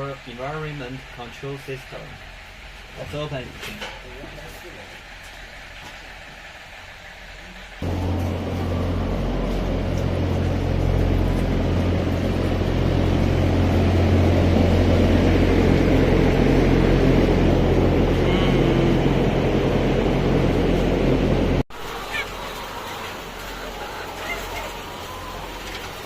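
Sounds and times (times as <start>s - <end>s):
ventilation fans droning: 0.0s - 26.0s.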